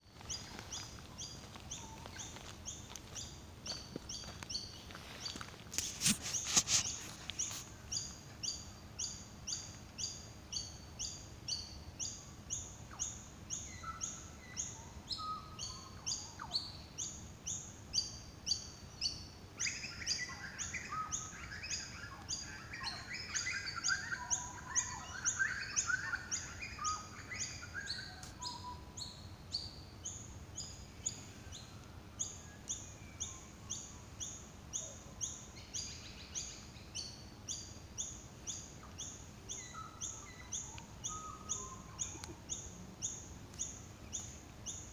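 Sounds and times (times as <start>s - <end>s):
birds twittering: 0.0s - 44.9s
small birds chirping: 0.0s - 44.9s.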